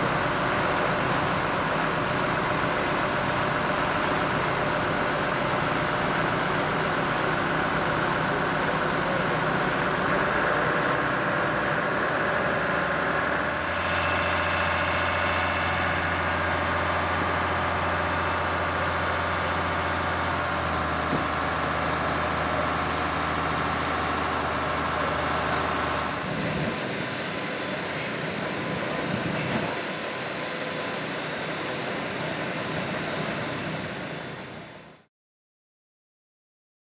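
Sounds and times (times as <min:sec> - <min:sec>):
fire engine mechanical drone: 0:00.0 - 0:35.1.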